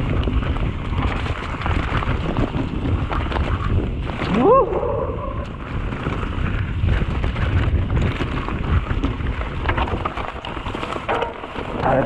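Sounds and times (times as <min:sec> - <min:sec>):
bike rattling clicks: 0:00.0 - 0:04.4, 0:05.3 - 0:12.0
bike tyres rolling on dirt: 0:00.0 - 0:12.0
wind on microphone: 0:00.0 - 0:12.0.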